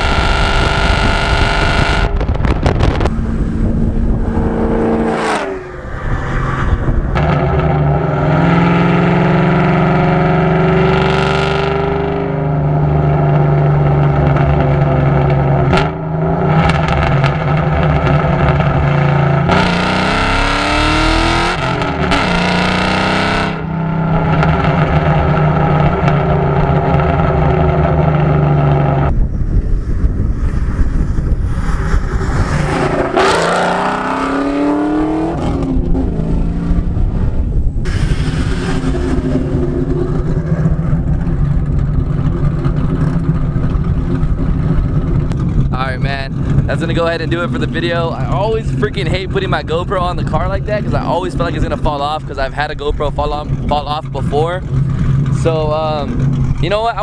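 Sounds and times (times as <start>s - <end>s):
loud car engine driving: 0.0s - 57.0s.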